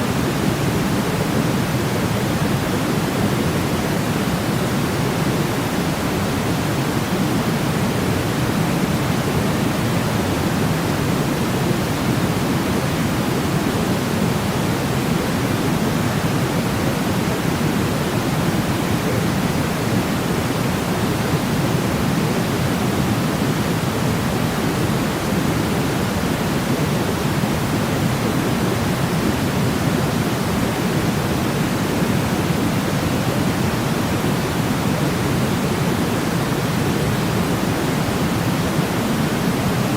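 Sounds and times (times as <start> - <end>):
low steady hiss: 0.0 - 39.9.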